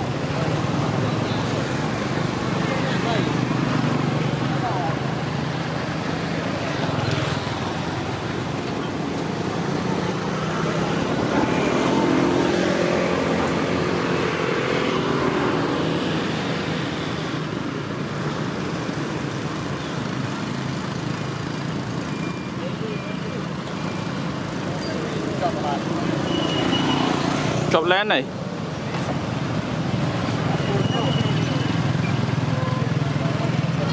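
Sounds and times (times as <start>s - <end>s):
road traffic: 0.0s - 33.9s.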